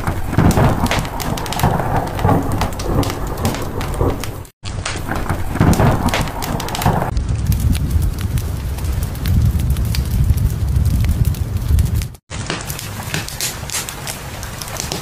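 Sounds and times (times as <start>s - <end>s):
low rumbling thunder: 0.0s - 12.2s
rain: 0.0s - 15.0s
wood fire crackling: 0.0s - 15.0s.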